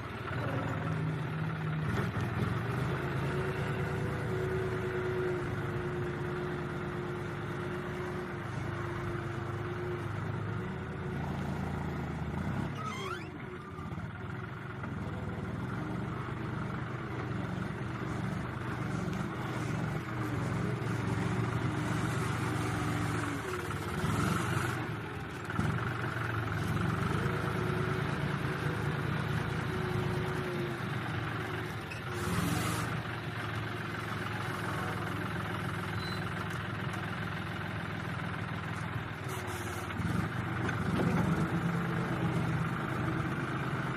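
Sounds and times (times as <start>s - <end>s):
diesel tractor engine: 0.0s - 43.9s.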